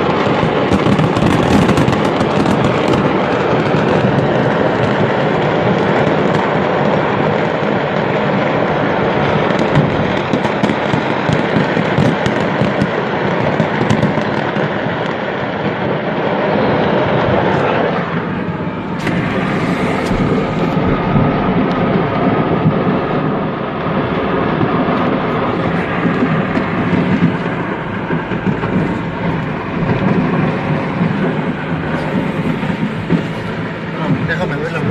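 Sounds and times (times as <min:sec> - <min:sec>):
fireworks rumbling and crackling: 0:00.0 - 0:34.9.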